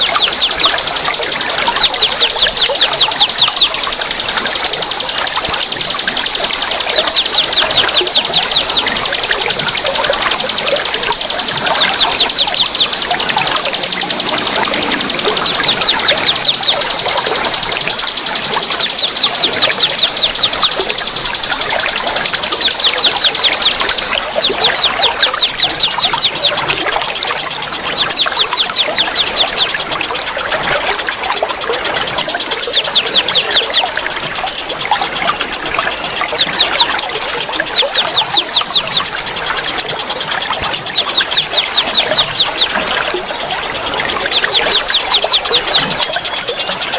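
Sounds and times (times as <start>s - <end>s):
songbird calling: 0.0s - 31.3s, 31.9s - 46.9s
water trickling: 0.0s - 46.9s.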